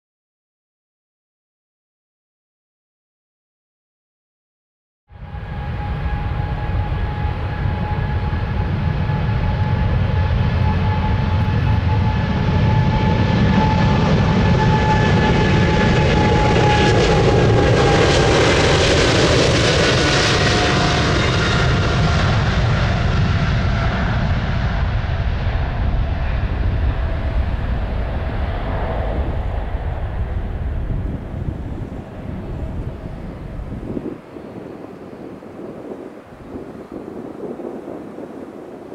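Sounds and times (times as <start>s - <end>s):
jet engines passing by: 5.1s - 38.9s.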